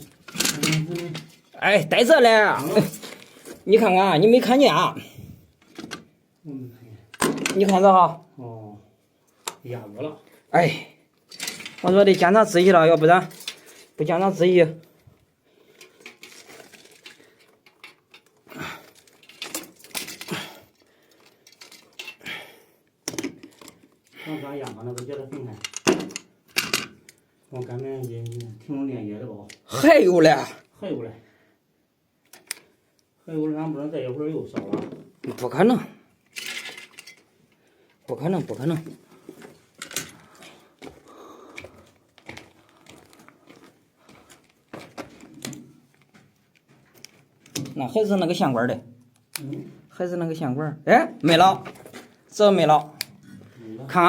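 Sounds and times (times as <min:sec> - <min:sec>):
wires and tools clicking and scraping: 0:00.0 - 0:06.5, 0:09.2 - 0:29.9, 0:32.2 - 0:33.1, 0:34.7 - 0:49.9, 0:51.2 - 0:54.0.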